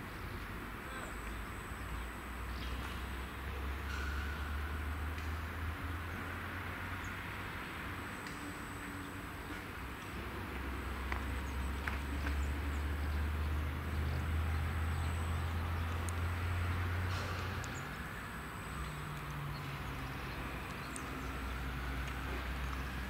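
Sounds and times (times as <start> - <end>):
low engine hum: 0.0 - 23.0
outdoor background noise: 0.0 - 23.0.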